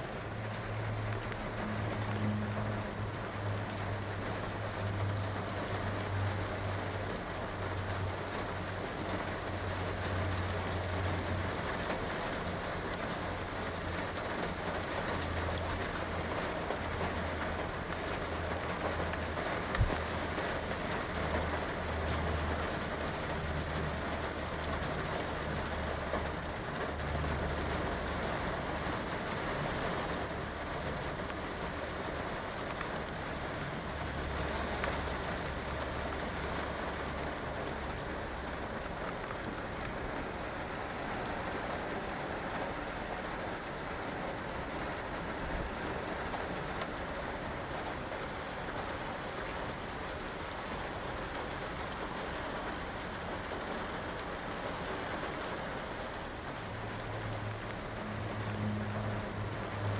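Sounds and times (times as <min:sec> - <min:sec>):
rain pattering on vehicle roof: 0:00.0 - 0:59.9.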